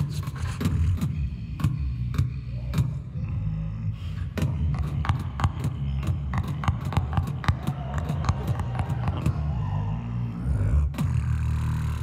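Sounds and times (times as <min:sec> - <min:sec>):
beatboxing percussive clicks: 0:00.0 - 0:09.6, 0:10.6 - 0:12.0
beatboxing bass hum: 0:00.0 - 0:12.0.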